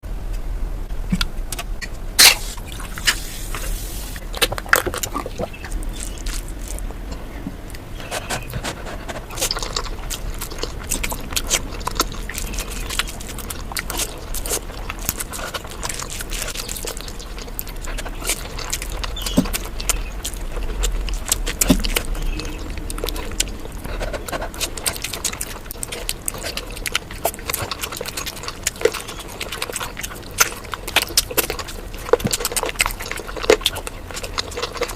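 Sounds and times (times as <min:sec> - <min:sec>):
chewing and mouth noises: 0:01.1 - 0:34.9.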